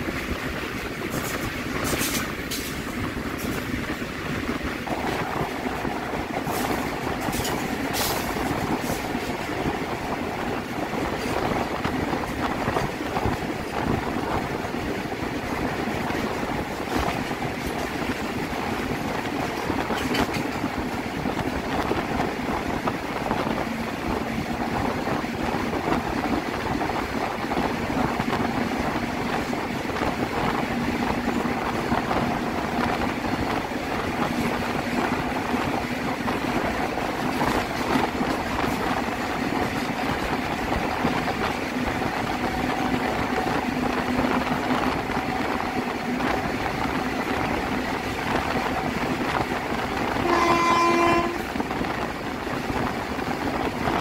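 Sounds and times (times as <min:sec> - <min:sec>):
locomotive hum: 0:00.0 - 0:54.0
train wheels rumbling on rails: 0:00.0 - 0:54.0.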